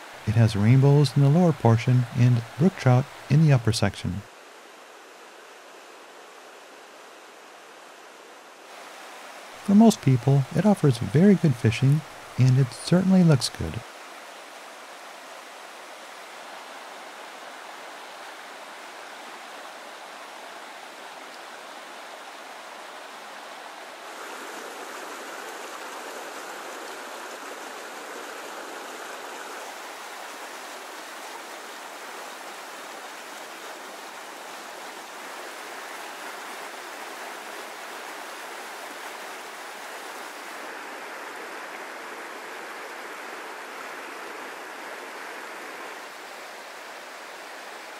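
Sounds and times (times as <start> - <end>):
creek rushing over boulders: 0.0 - 47.9.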